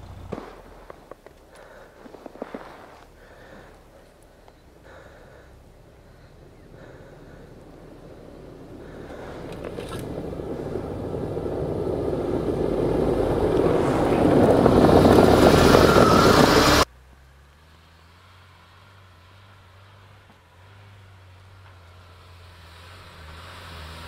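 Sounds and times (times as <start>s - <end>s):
vehicle driving through snow: 0.0s - 24.0s.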